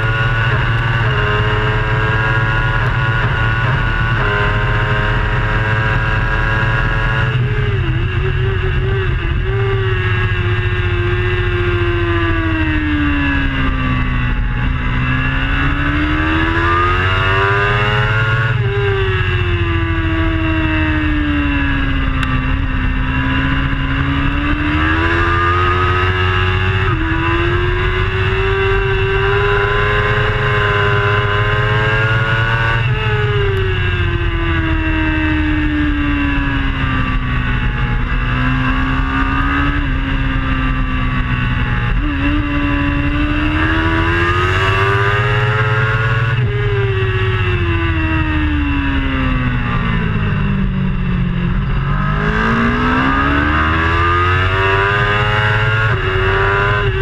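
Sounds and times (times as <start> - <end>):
superbike engine at speed: 0.0 - 57.0.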